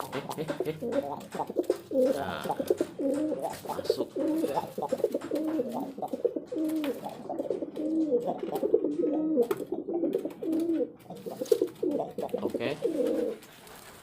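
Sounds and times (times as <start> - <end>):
pigeons cooing: 0.0 - 13.5.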